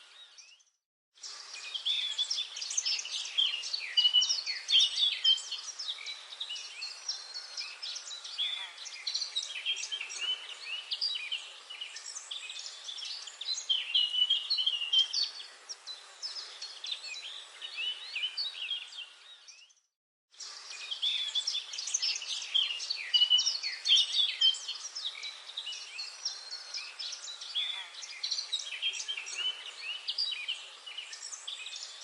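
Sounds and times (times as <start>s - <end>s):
chorus of birds chirping: 0.0s - 32.0s.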